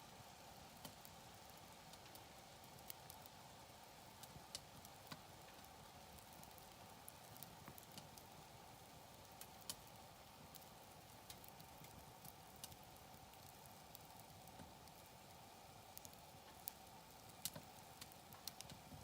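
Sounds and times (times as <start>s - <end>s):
campfire crackling: 0.6s - 19.0s.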